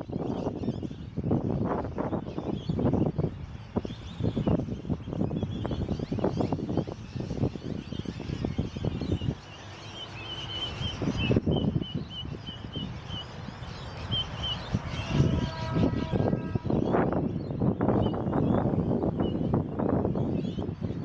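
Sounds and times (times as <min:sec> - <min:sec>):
small birds chirping: 0:00.0 - 0:21.0
steady humming tone: 0:00.0 - 0:21.0
wind buffeting microphone: 0:00.0 - 0:21.0.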